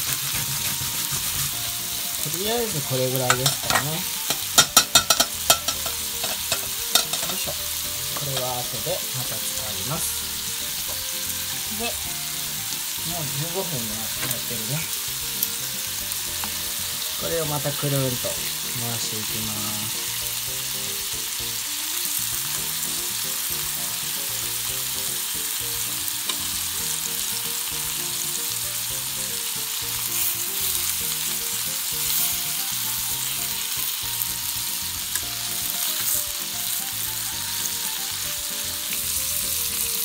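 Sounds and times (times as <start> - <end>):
food sizzling in frying pan: 0.0 - 40.0.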